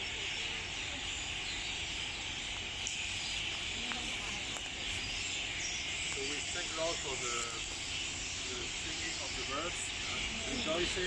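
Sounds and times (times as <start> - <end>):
swallows chirping: 0.0 - 11.0.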